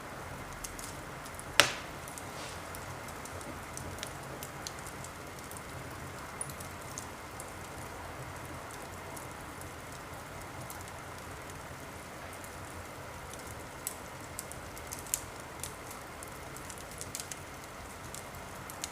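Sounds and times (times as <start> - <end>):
wood fire crackling and popping: 0.1 - 18.9.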